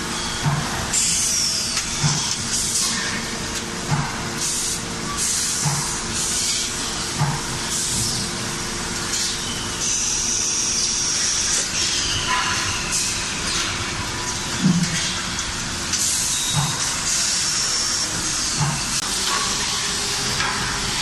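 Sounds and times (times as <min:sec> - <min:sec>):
steady machinery hum: 0:00.0 - 0:21.0.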